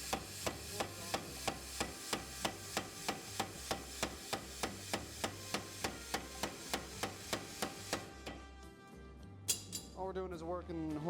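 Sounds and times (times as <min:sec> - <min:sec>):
power hammer striking hot steel: 0:00.0 - 0:08.6, 0:09.5 - 0:09.9.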